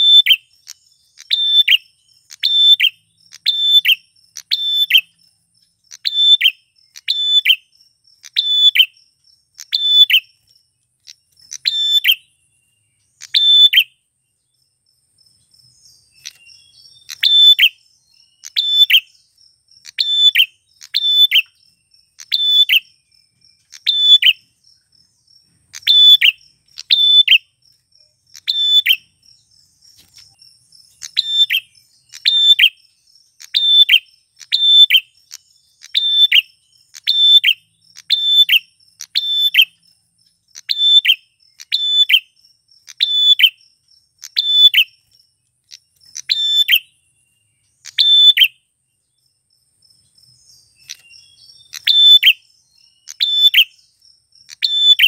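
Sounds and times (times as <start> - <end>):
bird chirping sharply: 0.0 - 5.2, 5.8 - 14.1, 15.4 - 39.8, 40.5 - 48.7, 50.3 - 55.0.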